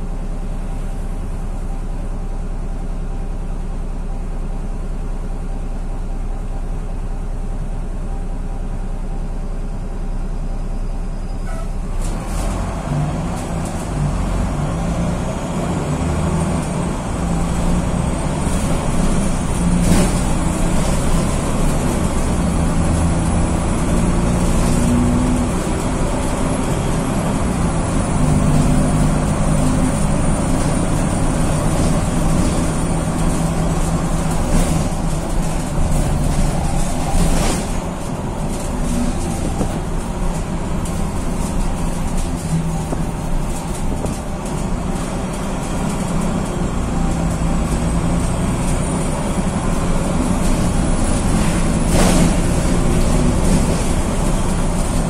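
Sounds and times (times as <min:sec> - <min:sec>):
diesel bus engine: 0:00.0 - 0:55.0.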